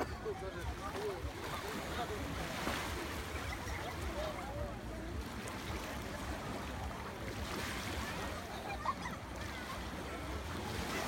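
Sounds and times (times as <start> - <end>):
faint distant voices: 0.0 - 11.0
sea surf washing on shore: 0.0 - 11.0.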